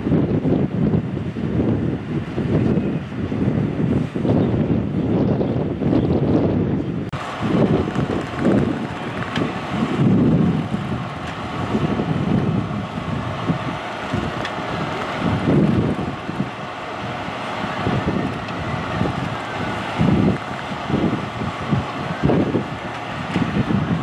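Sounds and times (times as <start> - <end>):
fire engine engine and pump droning: 0.0 - 24.0
wind buffeting microphone: 0.0 - 24.0.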